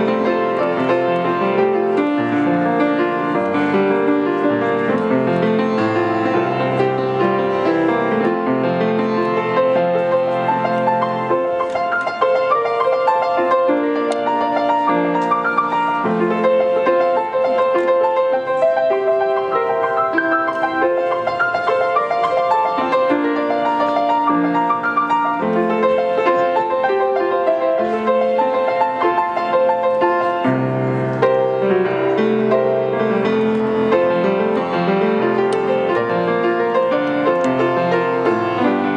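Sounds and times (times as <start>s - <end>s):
solo piano playing hymn: 0.0s - 38.9s.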